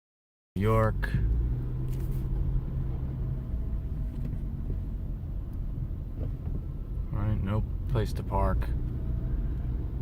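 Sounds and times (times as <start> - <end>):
car engine and road rumble: 0.6 - 10.0.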